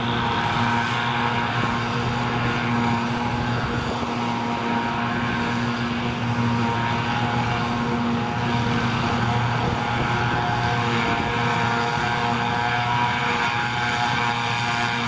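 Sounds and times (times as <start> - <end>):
harvester engine drone: 0.0 - 15.0.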